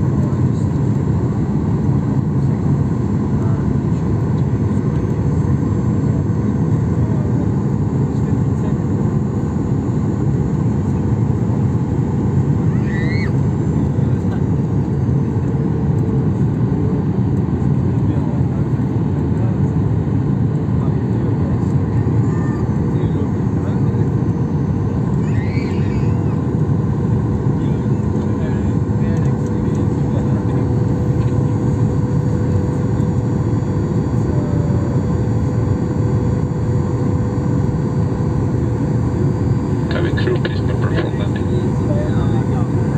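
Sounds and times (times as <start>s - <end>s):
airliner cabin engine rush: 0.0s - 42.9s.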